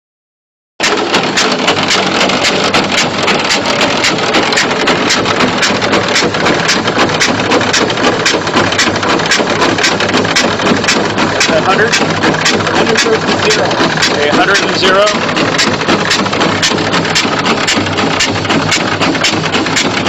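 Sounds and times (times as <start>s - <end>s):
engine-driven machine running: 0.8s - 20.0s
fast even ticking: 0.8s - 20.0s.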